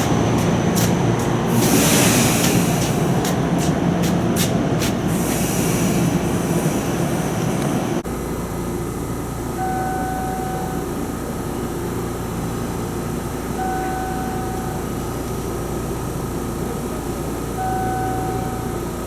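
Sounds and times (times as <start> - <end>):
train rumble on rails: 0.0 - 19.0.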